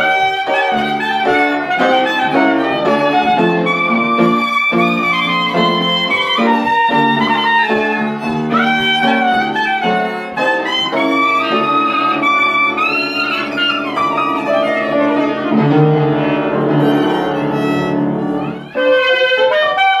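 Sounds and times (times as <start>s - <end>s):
piano accompaniment: 0.0s - 20.0s
violin melody with sliding notes: 0.0s - 20.0s.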